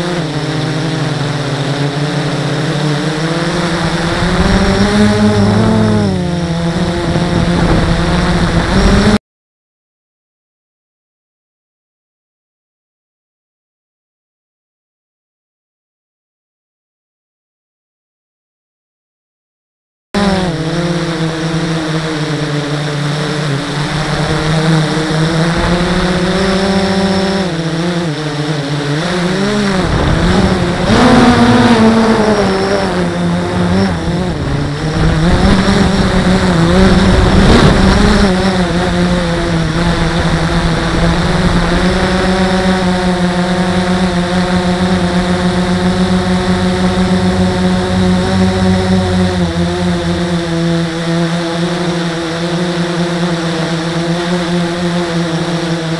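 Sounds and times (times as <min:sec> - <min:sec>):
quadcopter motors humming: 0:00.0 - 0:09.2, 0:20.2 - 0:55.9.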